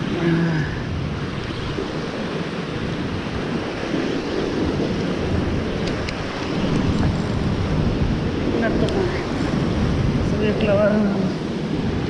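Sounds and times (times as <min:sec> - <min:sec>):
sea waves washing: 0:00.0 - 0:12.0
wind on microphone: 0:00.0 - 0:12.0.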